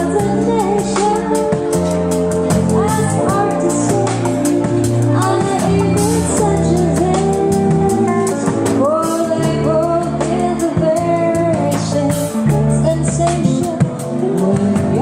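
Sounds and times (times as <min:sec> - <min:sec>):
guitar and bass chords: 0:00.0 - 0:15.0
held melody with vibrato: 0:00.0 - 0:15.0.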